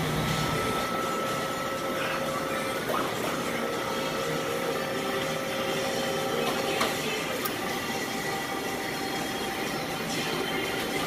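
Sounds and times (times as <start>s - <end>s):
steady machine hum: 0.0s - 11.0s
thin whining tones: 0.3s - 11.0s.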